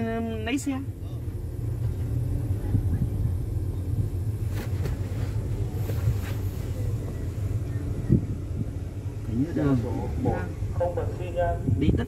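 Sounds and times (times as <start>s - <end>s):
car rumbling from inside cabin: 0.0s - 12.0s.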